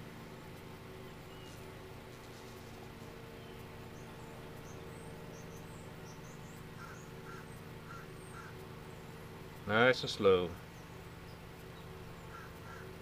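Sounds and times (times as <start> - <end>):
steady low hum: 0.0 - 13.0
faint bird chirps: 1.0 - 9.2, 10.6 - 13.0.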